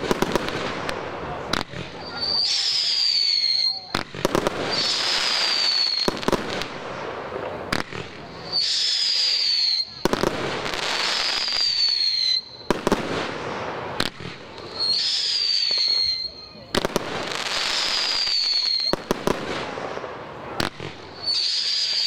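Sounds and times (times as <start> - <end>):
firework whistles: 0.0 - 7.1, 7.7 - 22.0.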